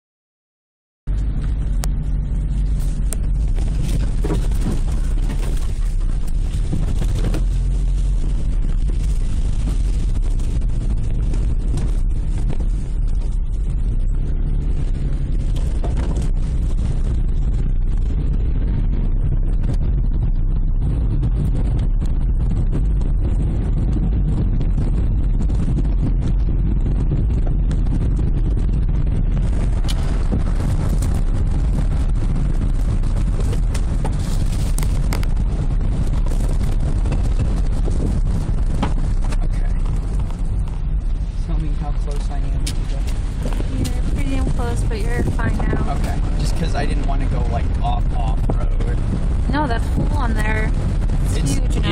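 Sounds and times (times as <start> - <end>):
car interior road rumble: 1.1 - 51.9.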